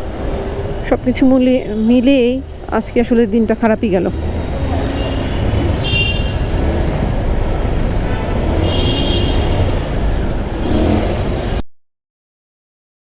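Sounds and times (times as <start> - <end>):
road and traffic rumble: 0.0 - 11.6.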